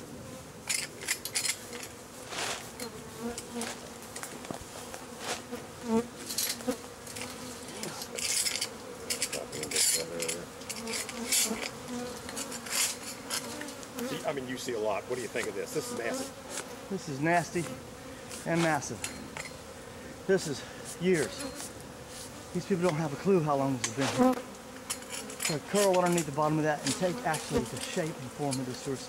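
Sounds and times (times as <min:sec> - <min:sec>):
bees buzzing: 0:00.0 - 0:29.0
tool scraping honeycomb: 0:00.6 - 0:29.0.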